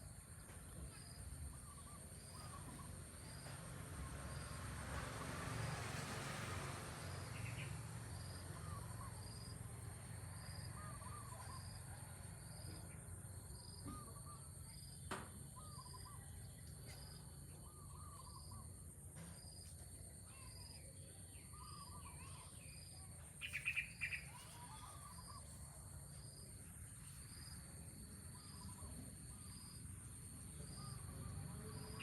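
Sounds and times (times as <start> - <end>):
cricket-like chirp: 0.0 - 32.0.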